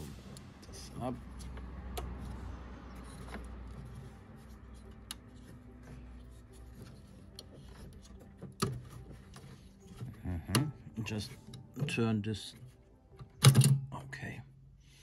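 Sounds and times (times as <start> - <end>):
plastic parts rubbing and scraping: 0.7 - 12.8.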